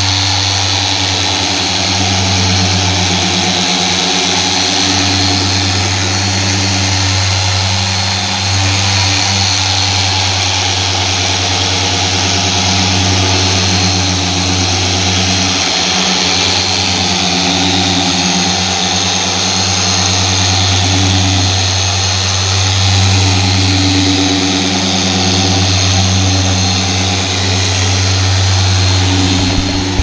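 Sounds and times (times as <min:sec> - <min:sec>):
car polisher humming and whining: 0:00.0 - 0:30.0.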